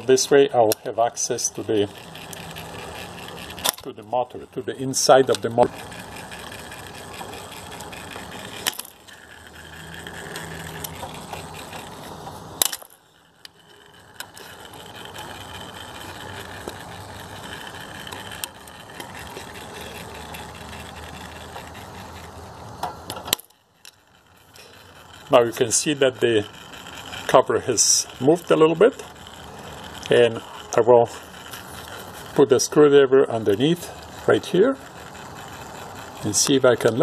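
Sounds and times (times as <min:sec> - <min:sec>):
screwdriver scraping metal: 0:00.0 - 0:37.0
sharp metallic clicks: 0:00.0 - 0:37.0.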